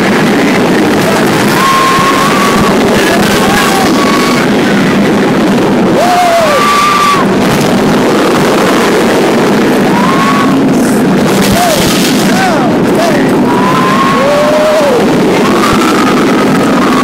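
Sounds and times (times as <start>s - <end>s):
roller coaster running: 0.0s - 17.0s
wind buffeting microphone: 0.0s - 17.0s
riders screaming: 0.5s - 17.0s.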